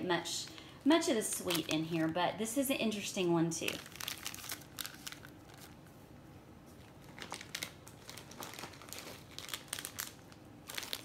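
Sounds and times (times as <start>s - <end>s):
plastic bags crinkling: 0.0s - 5.9s, 6.7s - 11.0s.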